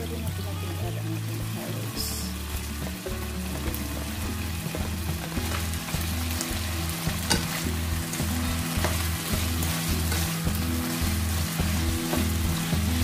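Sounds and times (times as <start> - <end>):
food sizzling in hot oil: 0.0 - 13.0
soft background music: 0.0 - 13.0.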